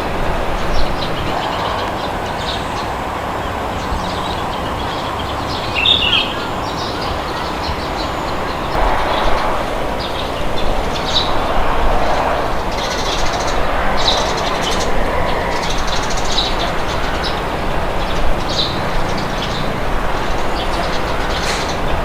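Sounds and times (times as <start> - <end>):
small birds chirping: 0.0 - 22.0
wind blowing: 0.0 - 22.0.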